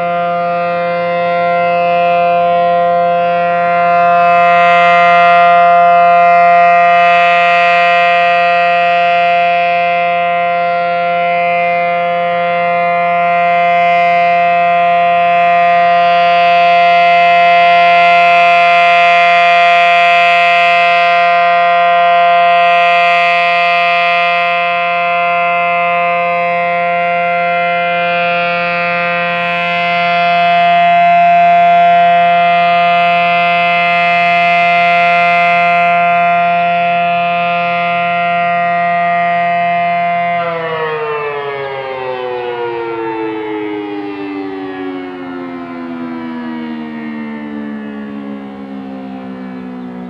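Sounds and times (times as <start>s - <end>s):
warning siren steady tone: 0.0s - 50.0s.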